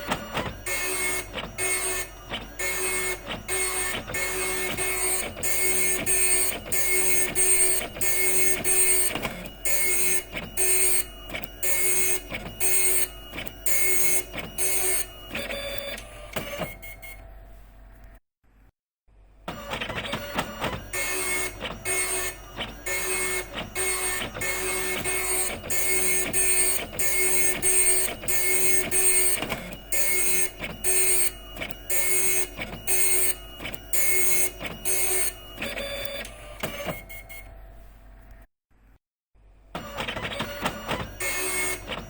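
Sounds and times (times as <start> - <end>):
dot matrix printer printing: 0.0 - 17.4, 19.5 - 37.8, 39.8 - 42.0.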